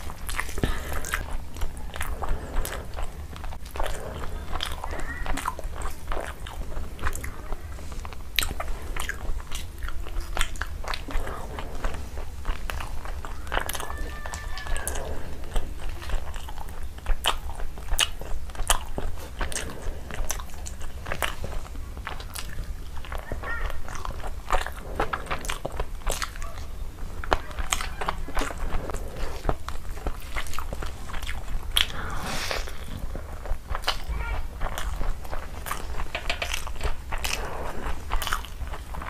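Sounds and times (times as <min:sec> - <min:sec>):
low steady hum: 0:00.0 - 0:39.0
person chewing and crunching: 0:00.0 - 0:39.0.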